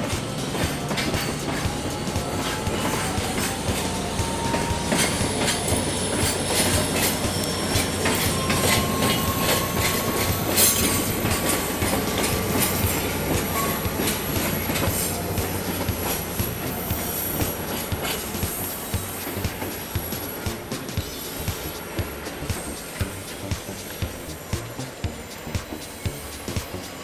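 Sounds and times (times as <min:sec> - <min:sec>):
locomotive engine rumble: 0:00.0 - 0:27.0
wheel squeal: 0:00.0 - 0:27.0
wheels clicking over rail joints: 0:00.0 - 0:27.0.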